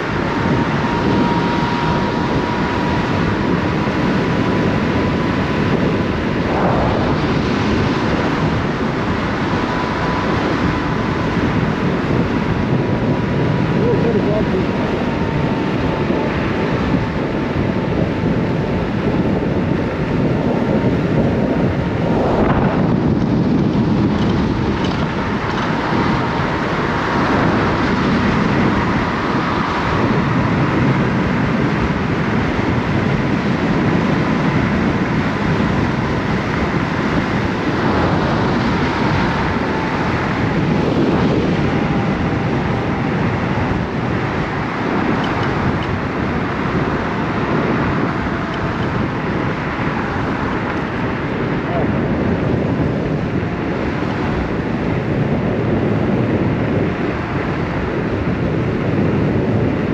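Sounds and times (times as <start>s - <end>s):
electric motor whine: 0.0s - 59.9s
wind rush over microphone: 0.0s - 59.9s.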